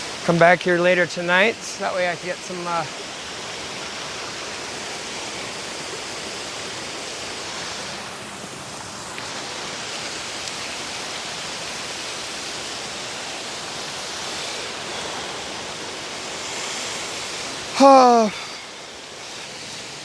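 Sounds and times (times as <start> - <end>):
waterfall rushing into pool: 0.0 - 20.0.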